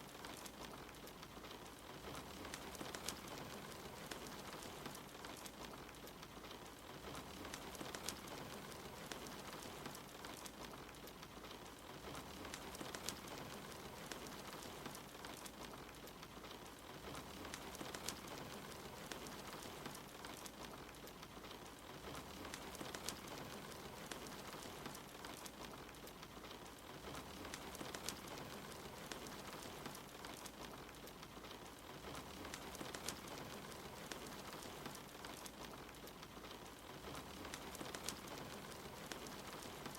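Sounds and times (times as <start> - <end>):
steady rain hiss: 0.0 - 39.9
wood fire crackling: 0.0 - 39.9.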